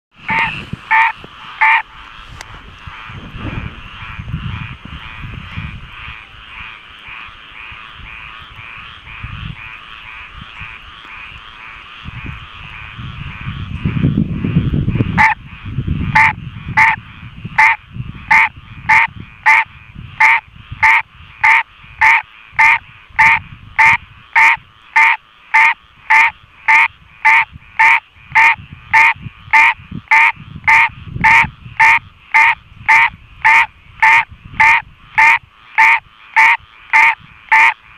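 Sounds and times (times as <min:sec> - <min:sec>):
chorus of frogs: 0:00.1 - 0:37.9
tree frog mating call: 0:00.2 - 0:37.9.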